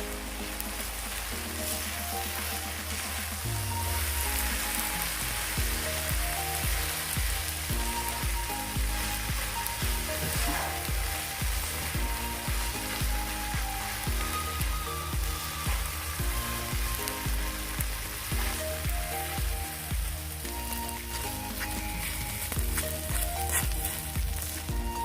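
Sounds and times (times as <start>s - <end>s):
background music with steady beat: 0.0s - 25.0s
rice sizzling on a griddle: 0.0s - 25.0s.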